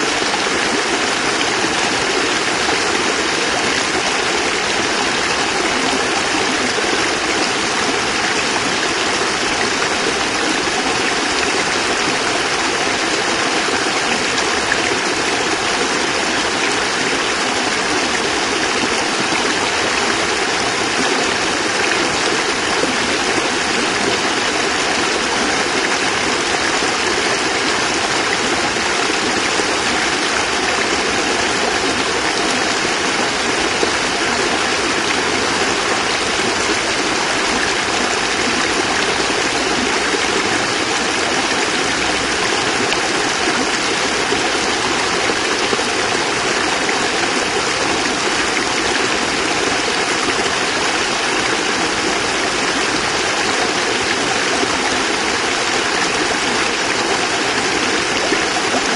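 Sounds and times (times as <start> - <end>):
water cascade splashing: 0.0 - 58.9.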